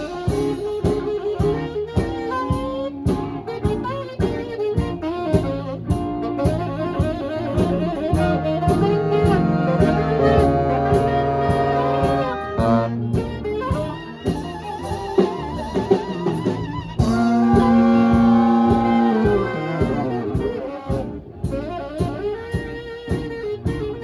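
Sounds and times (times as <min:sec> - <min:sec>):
held horn note: 0:00.0 - 0:24.0
swing band playing: 0:00.0 - 0:24.0.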